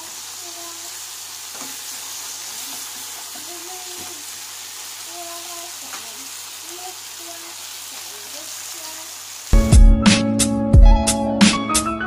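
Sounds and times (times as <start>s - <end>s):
food sizzling in a wok: 0.0s - 10.6s.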